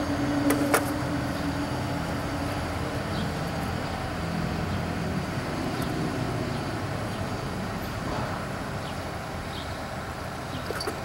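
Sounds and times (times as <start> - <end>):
distant warning sirens: 0.0 - 10.6.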